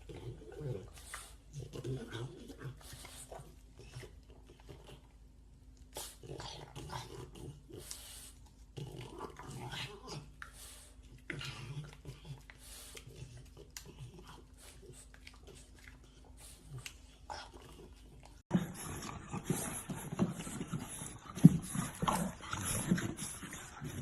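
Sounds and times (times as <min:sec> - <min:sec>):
puppies making low vocal sounds: 0:00.0 - 0:24.0.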